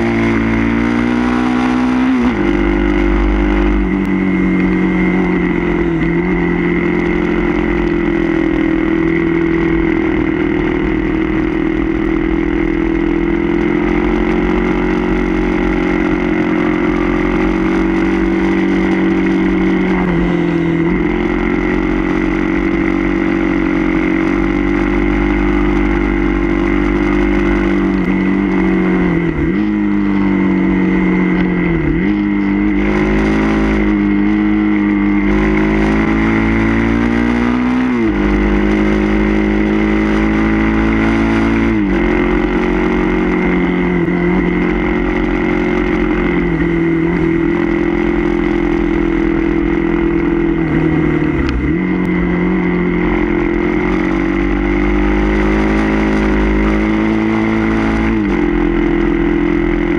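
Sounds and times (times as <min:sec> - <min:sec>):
motorcycle engine pulling hard: 0:00.0 - 0:59.9.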